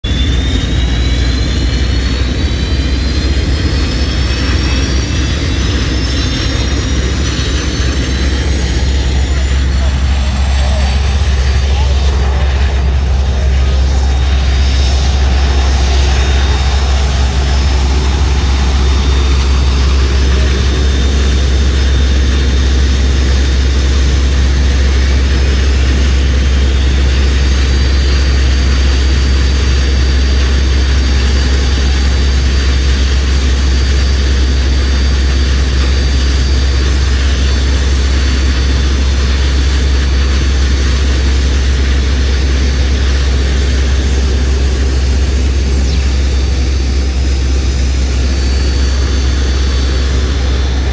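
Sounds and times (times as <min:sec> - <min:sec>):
gas turbine engines whining: 0:00.0 - 0:50.9.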